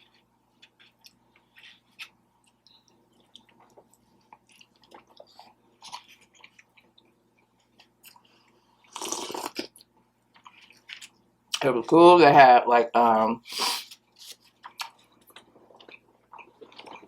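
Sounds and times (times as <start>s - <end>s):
person chewing: 0.0s - 11.6s, 13.5s - 17.0s.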